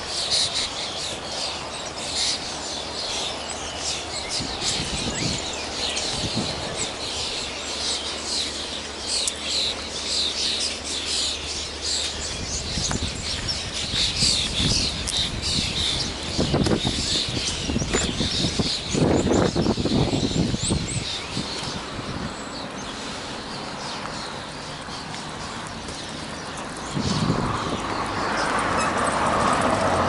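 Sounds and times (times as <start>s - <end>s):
songbirds chirping and singing: 0.0s - 29.7s.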